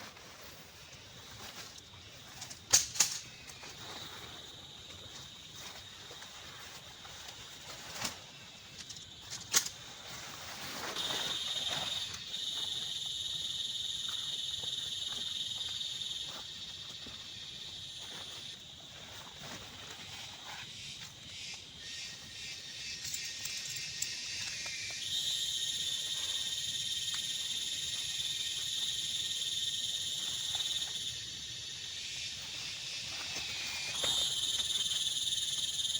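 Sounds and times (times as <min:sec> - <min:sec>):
high-pitched insect trill: 0:00.0 - 0:35.9.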